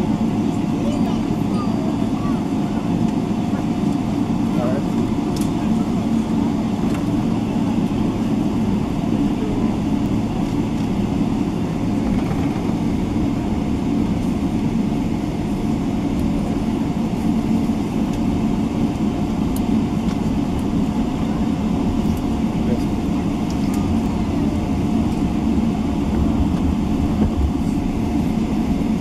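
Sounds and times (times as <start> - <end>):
aircraft cabin low rumble: 0.0 - 29.0.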